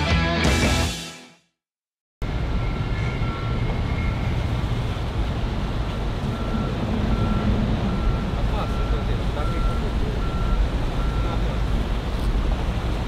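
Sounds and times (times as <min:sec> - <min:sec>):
boat engines rumbling: 0:02.2 - 0:13.0.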